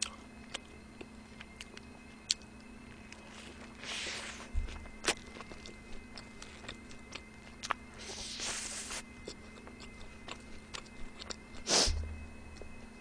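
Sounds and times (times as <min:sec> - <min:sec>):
chewing a burger: 0:00.0 - 0:11.7.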